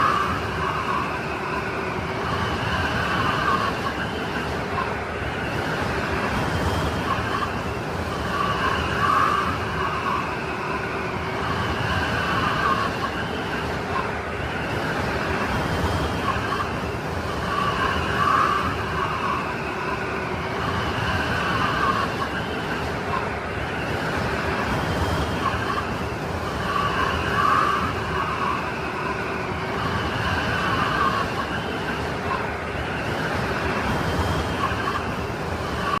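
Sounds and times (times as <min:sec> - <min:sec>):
snowstorm wind whistling: 0:00.0 - 0:36.0.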